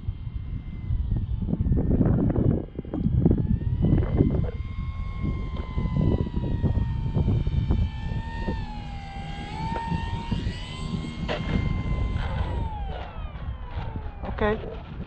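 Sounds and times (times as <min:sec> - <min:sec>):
model plane electric motor whining: 0:00.0 - 0:15.0
wind buffeting microphone: 0:00.0 - 0:15.0.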